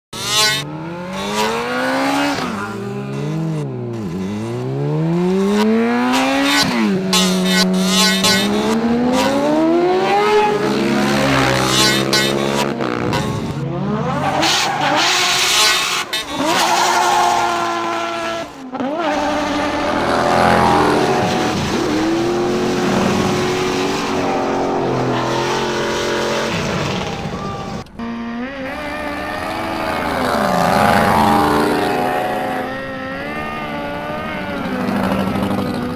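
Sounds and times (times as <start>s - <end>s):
car engines revving: 0.2s - 35.9s
tyre squeal: 6.2s - 35.8s.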